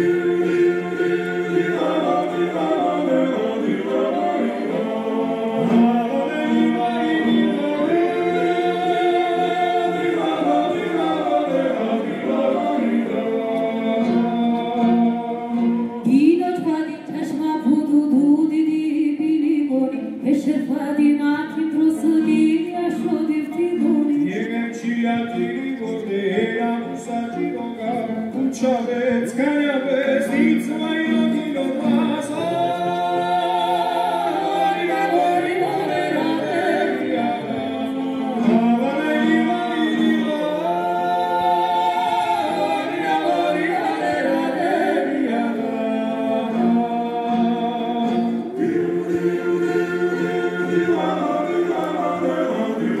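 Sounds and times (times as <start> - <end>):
polyphonic folk singing: 0.0 - 53.0.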